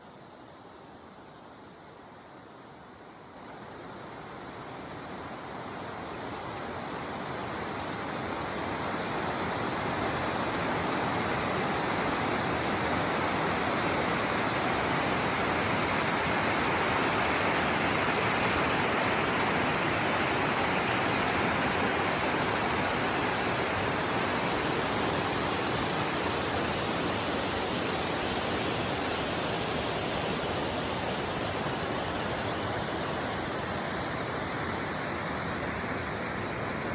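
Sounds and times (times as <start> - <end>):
fast-flowing water rushing: 0.2 - 36.9.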